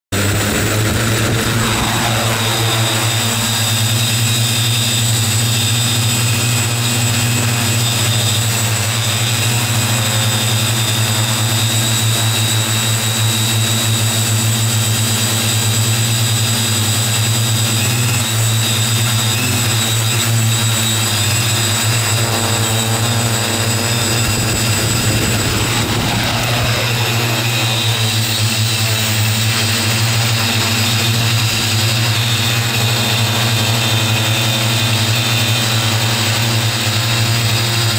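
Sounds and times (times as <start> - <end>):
drone motors and propellers humming: 0.1 - 37.9.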